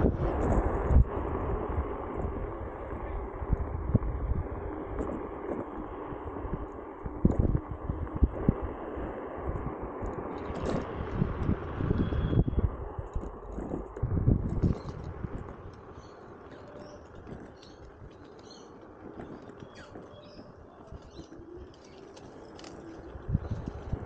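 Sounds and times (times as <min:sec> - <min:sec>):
scooter tyre rumble on pavement: 0:00.0 - 0:24.0
wind buffeting microphone: 0:00.0 - 0:24.0.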